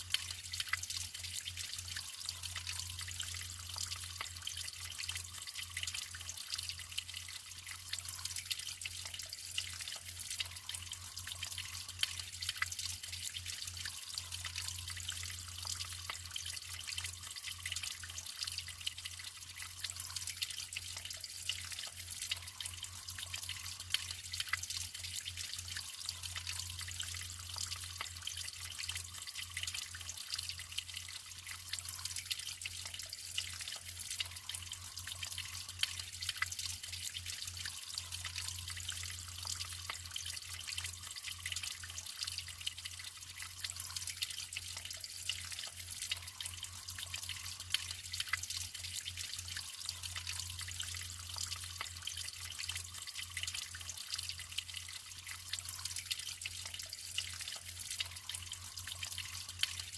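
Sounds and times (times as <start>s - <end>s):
water running and trickling: 0.0s - 59.9s.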